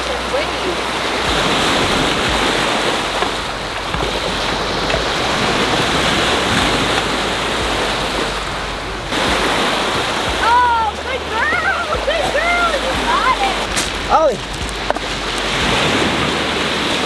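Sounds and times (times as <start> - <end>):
waves washing onto rocky beach: 0.0 - 17.0
wind buffeting microphone: 0.0 - 17.0.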